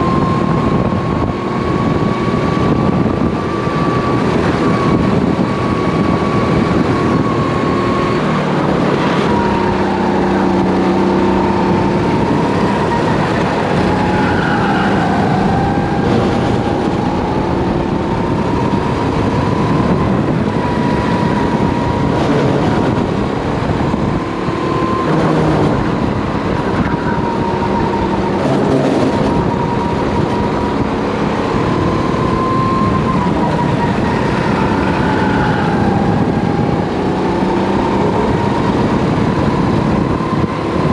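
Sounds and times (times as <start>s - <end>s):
kart engine running hard: 0.0s - 40.9s
wind rush: 0.0s - 40.9s.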